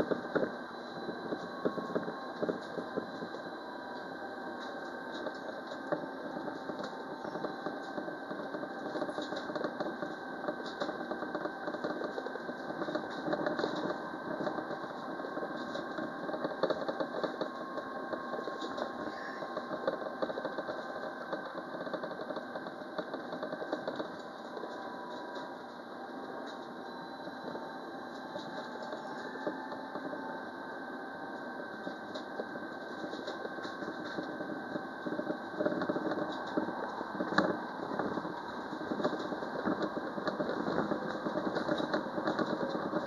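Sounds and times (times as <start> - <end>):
thin whine tones: 0.0 - 43.0
tram running drone: 0.0 - 43.0.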